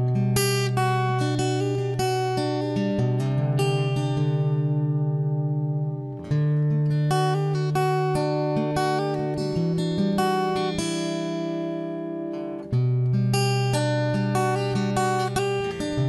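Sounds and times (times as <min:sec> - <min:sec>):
acoustic guitar picking a melody: 0:00.0 - 0:16.0.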